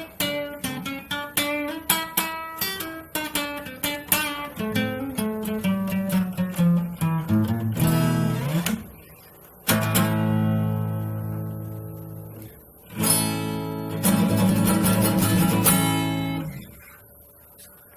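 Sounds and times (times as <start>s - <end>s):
acoustic guitar playing: 0.0s - 17.7s.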